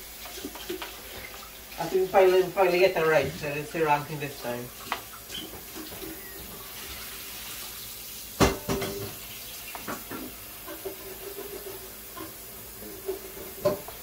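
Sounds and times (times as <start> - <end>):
batter sizzling in hot oil: 0.0 - 14.0.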